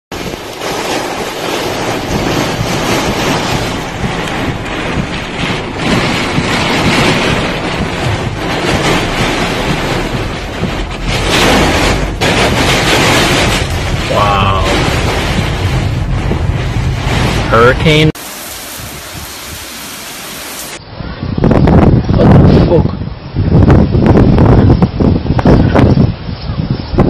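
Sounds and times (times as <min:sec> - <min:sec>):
storm wind buffeting microphone: 0:00.1 - 0:27.0.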